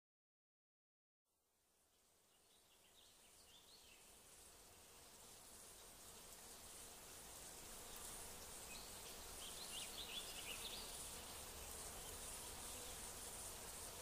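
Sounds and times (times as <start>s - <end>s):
buzzing insects: 2.3s - 14.0s.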